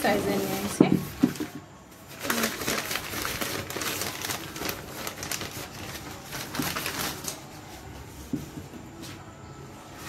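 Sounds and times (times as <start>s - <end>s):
newspaper rustling and crinkling: 0.0s - 8.6s.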